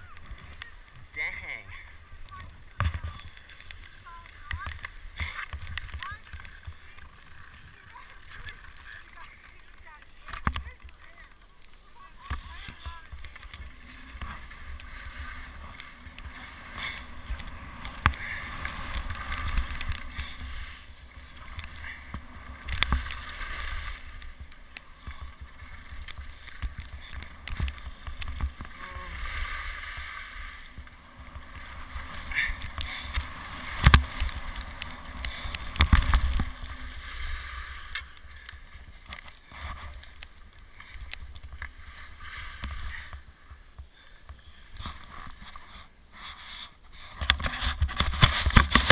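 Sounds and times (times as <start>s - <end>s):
skis scraping over snow: 0.0s - 48.9s.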